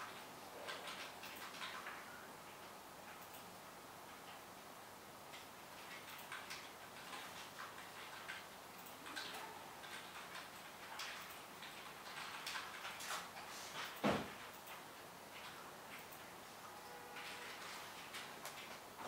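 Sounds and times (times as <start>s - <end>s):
faint clicking and ticking: 0.0s - 13.5s, 14.4s - 19.0s.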